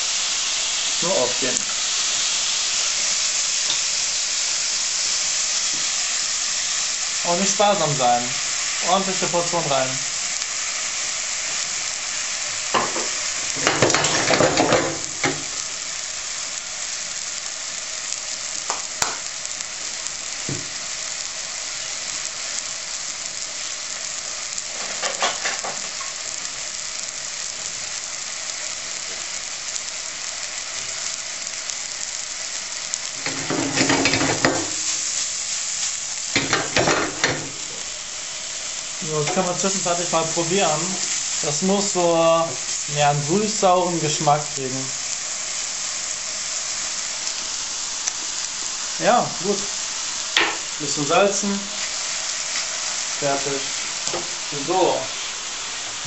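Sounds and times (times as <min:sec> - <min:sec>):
sauce sizzling in frying pan: 0:00.0 - 0:56.0.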